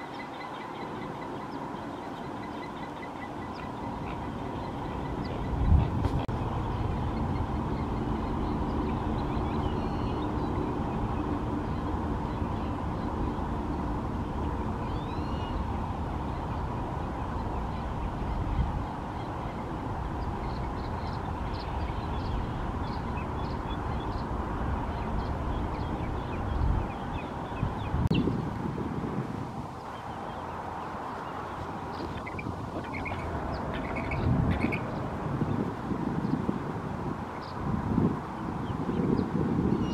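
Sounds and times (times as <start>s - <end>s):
swooping bird calls: 0.0s - 28.3s, 29.8s - 36.4s, 38.6s - 39.9s
birds calling faintly: 0.0s - 28.6s, 29.7s - 36.6s
low outdoor rumble: 1.4s - 38.2s.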